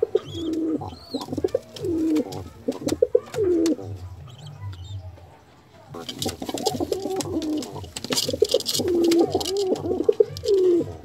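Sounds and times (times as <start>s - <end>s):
pigeon cooing: 0.0s - 4.6s, 6.0s - 11.0s.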